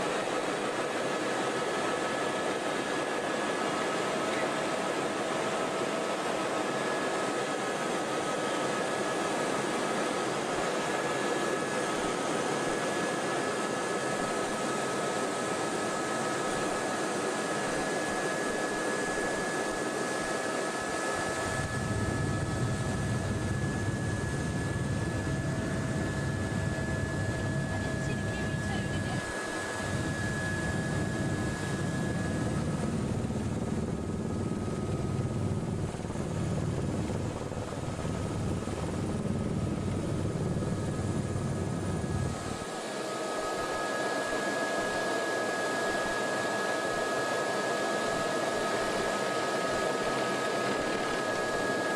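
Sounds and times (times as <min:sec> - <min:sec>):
helicopter engine and rotor noise: 0:00.0 - 0:51.9.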